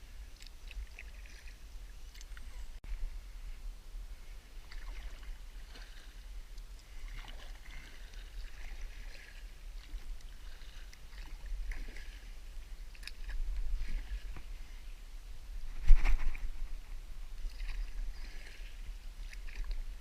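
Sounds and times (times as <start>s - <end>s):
steady low rumble: 0.0s - 20.0s
kayak paddle splashes: 0.2s - 3.1s, 4.5s - 15.0s, 15.8s - 20.0s.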